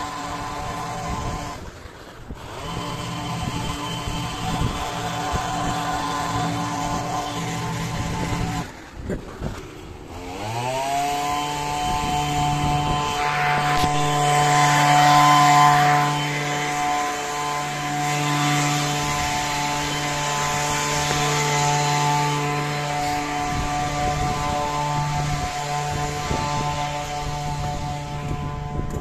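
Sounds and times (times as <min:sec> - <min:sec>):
hissing cutting noise: 0:00.0 - 0:29.0
two-stroke engine revving: 0:00.0 - 0:29.0.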